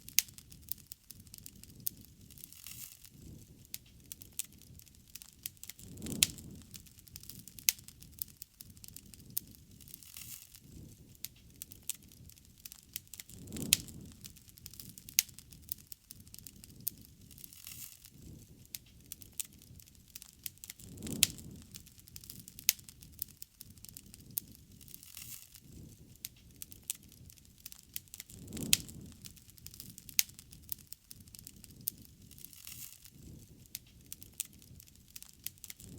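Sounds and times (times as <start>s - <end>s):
fire popping and snapping: 0.0s - 35.9s
wood bonfire crackling: 0.0s - 35.9s.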